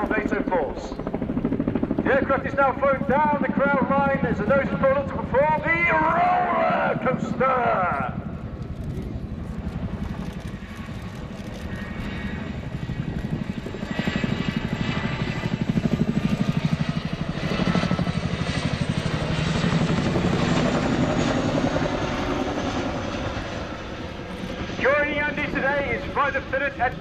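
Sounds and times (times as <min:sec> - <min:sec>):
helicopter rotors beating: 0:00.0 - 0:27.0.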